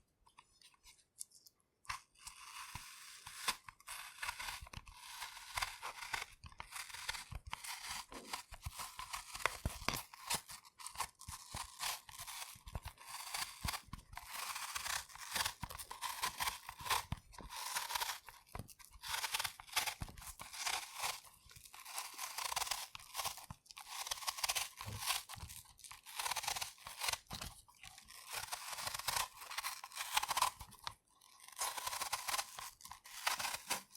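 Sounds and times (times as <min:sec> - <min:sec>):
knife peeling an apple: 0:00.0 - 0:33.9.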